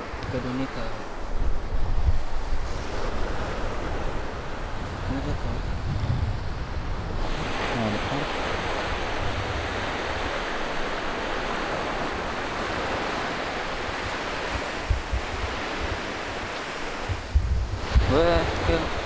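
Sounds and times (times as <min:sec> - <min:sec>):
waves washing on a shore: 0:00.0 - 0:19.0
wind on microphone: 0:00.0 - 0:19.0.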